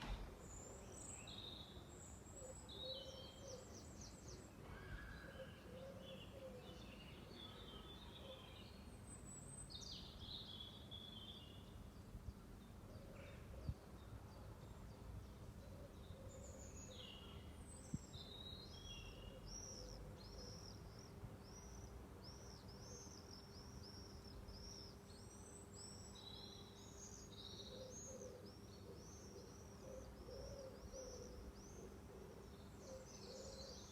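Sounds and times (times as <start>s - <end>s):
small birds singing: 0.0s - 33.9s.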